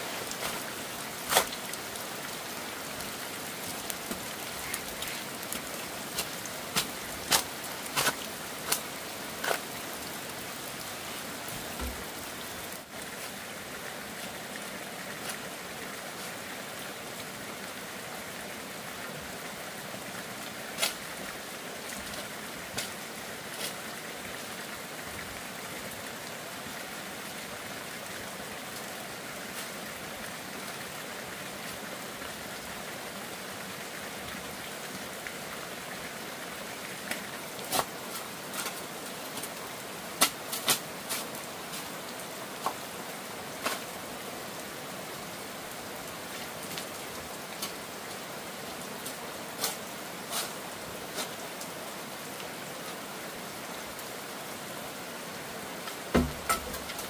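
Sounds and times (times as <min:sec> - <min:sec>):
outdoor ambience hiss: 0:00.0 - 0:57.0.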